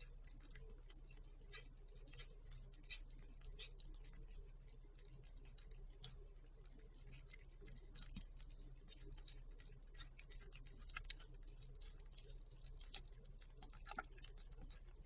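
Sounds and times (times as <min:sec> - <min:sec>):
steady low hum: 0:00.0 - 0:15.0
cat licking wet clicks: 0:00.1 - 0:15.0.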